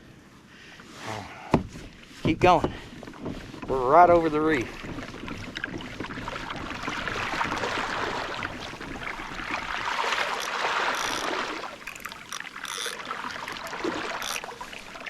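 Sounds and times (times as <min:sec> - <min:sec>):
water splashing along kayak hull: 0:00.7 - 0:15.0.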